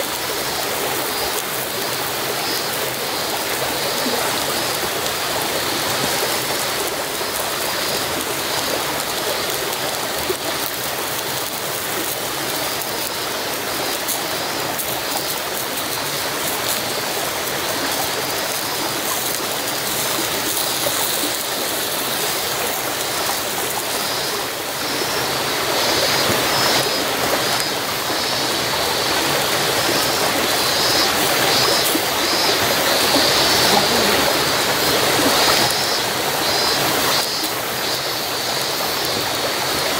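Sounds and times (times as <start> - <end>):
mushrooms sizzling in a pan: 0.1 - 39.9.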